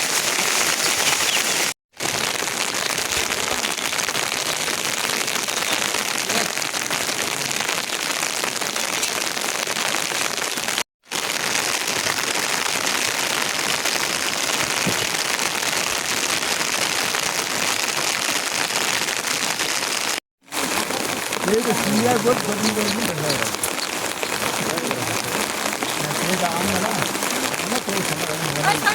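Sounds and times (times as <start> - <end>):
heavy rain: 0.0 - 28.9.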